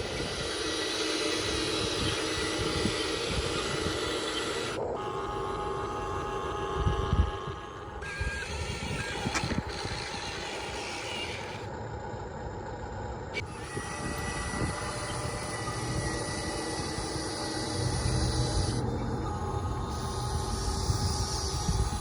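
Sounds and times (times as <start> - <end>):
small electric motors whirring: 0.0 - 11.8, 13.4 - 22.0.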